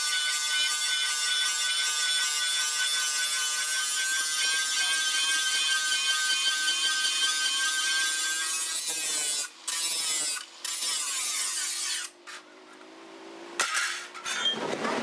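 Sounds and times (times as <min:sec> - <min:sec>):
angle grinder grinding steel: 0:00.0 - 0:12.5.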